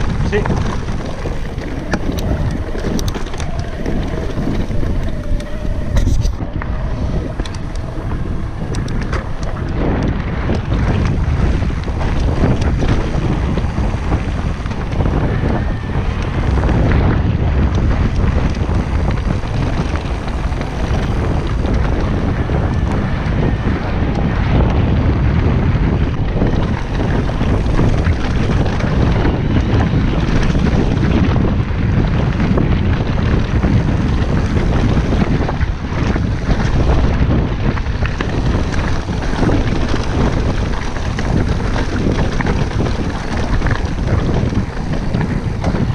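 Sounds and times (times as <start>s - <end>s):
bike rattling over bumps: 0.0s - 45.9s
tyres crunching on loose stones: 0.0s - 45.9s
wind buffeting microphone: 0.0s - 45.9s.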